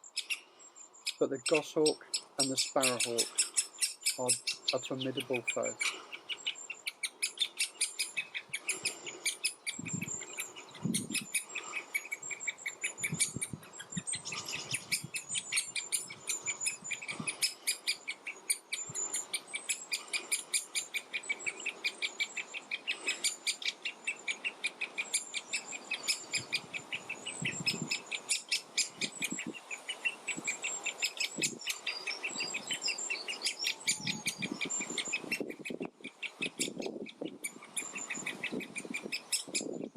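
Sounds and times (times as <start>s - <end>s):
woodland birds singing: 0.0s - 39.9s
young woodpecker chattering: 0.0s - 39.9s.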